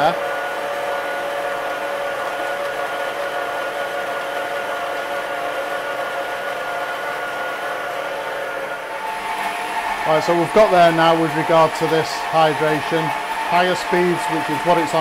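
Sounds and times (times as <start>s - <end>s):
stand mixer motor whining: 0.0s - 15.0s.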